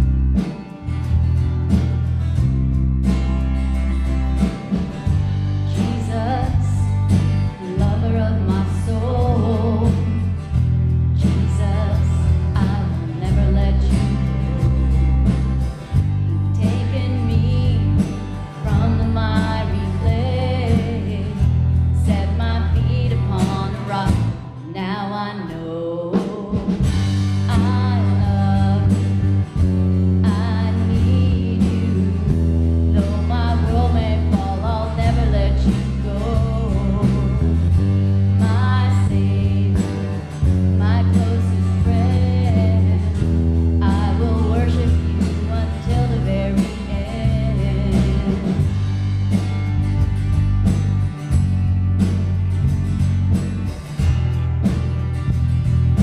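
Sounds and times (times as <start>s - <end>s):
electric bass low notes: 0.0s - 25.0s, 26.6s - 56.0s
worship song with band: 0.0s - 56.0s.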